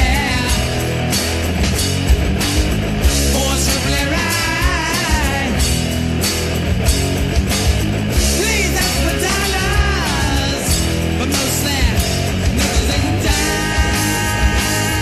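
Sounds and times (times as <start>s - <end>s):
hard rock band: 0.0s - 15.0s
wavering lead guitar line: 0.0s - 15.0s.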